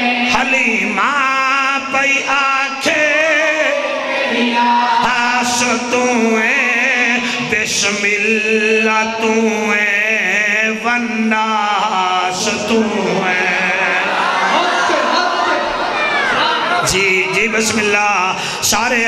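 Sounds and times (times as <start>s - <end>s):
man chant-singing into microphone: 0.0s - 15.3s, 16.7s - 19.0s.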